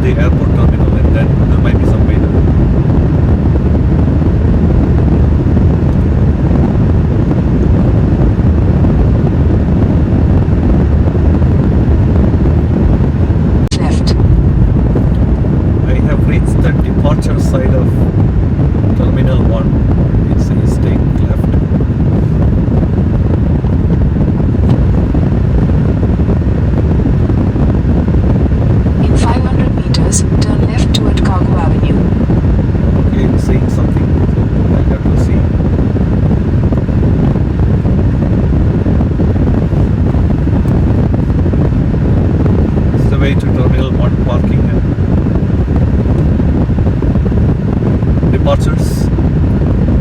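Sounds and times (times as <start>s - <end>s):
car road and wind noise: 0.0s - 50.0s.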